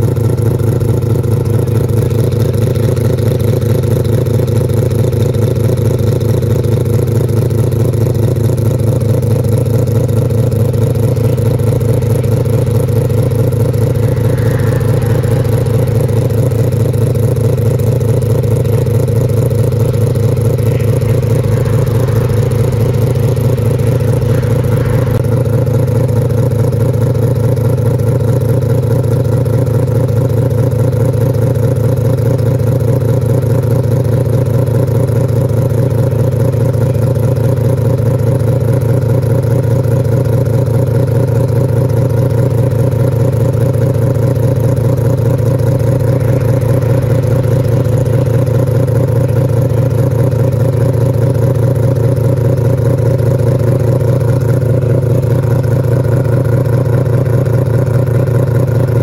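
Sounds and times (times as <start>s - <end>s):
rotary engine idling: 0.0s - 59.0s.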